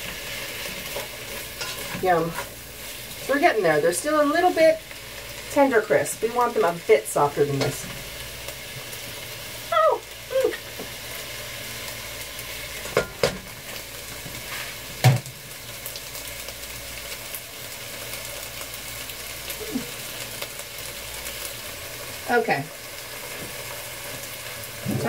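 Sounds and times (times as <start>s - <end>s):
apples sizzling in a skillet: 0.0s - 25.0s.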